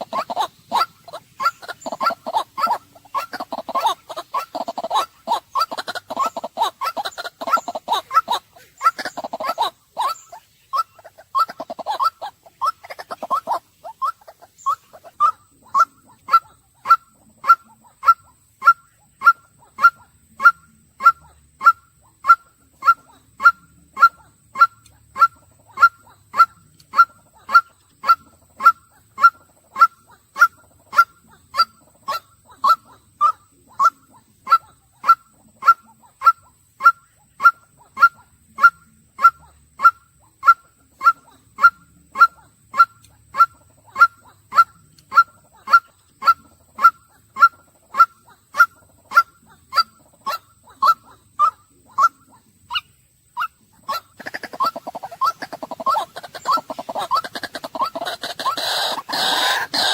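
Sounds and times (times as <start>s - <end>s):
waterhen honking call: 0.0s - 59.9s.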